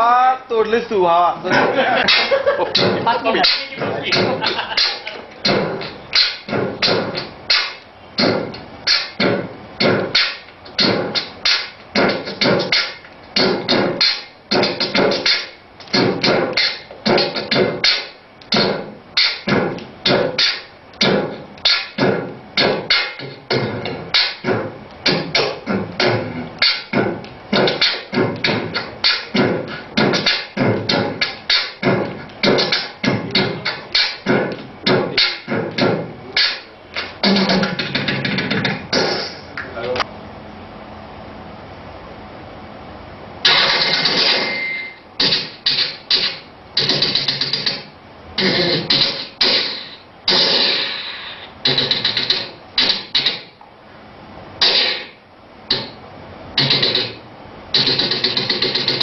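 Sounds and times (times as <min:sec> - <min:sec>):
person beatboxing: 0:01.5 - 0:40.0, 0:43.4 - 0:44.6, 0:45.2 - 0:53.6, 0:54.6 - 0:56.0, 0:56.6 - 0:59.0.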